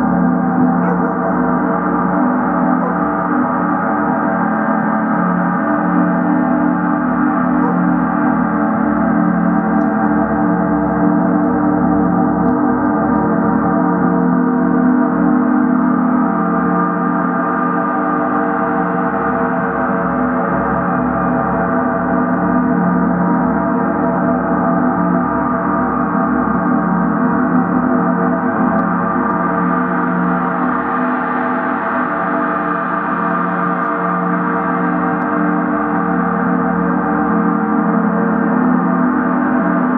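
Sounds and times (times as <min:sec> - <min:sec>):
gongs played with soft mallets: 0:00.0 - 0:39.9.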